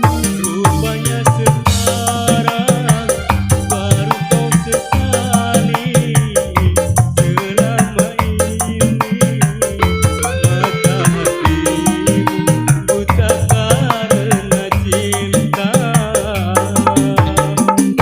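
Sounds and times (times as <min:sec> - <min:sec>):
fast drum rhythm: 0:00.0 - 0:18.0
steady bass line: 0:00.0 - 0:18.0
wavering keyboard melody: 0:00.0 - 0:18.0.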